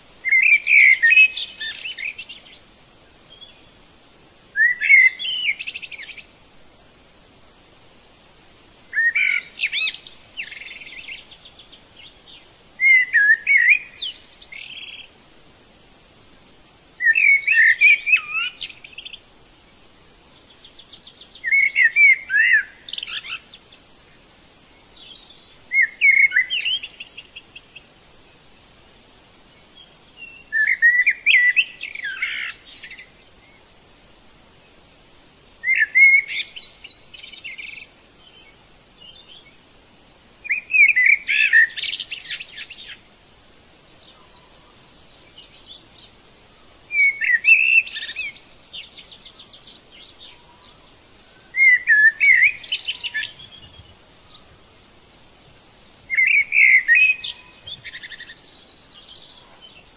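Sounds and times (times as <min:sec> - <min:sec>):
faint bird chirps: 0:00.0 - 0:06.4, 0:08.9 - 0:15.2, 0:16.4 - 0:28.8, 0:29.4 - 0:33.8, 0:35.6 - 0:39.8, 0:40.4 - 0:43.2, 0:43.9 - 0:59.9
songbird singing: 0:00.0 - 0:59.9.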